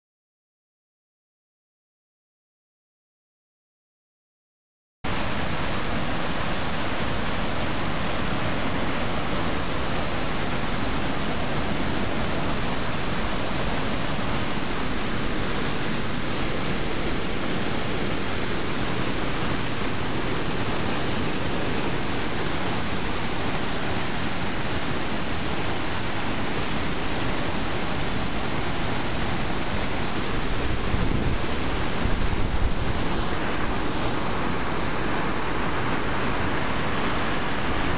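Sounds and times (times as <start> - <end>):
floodwater rushing: 5.1 - 37.9.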